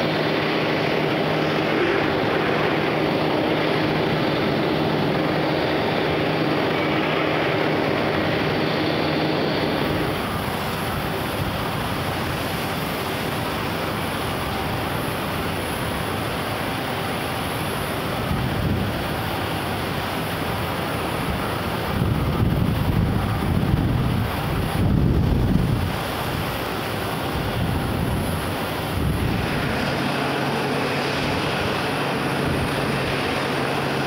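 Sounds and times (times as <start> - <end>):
wind rushing over microphone: 0.0 - 16.6, 18.0 - 19.5, 21.0 - 34.0
machinery hum: 0.0 - 34.0.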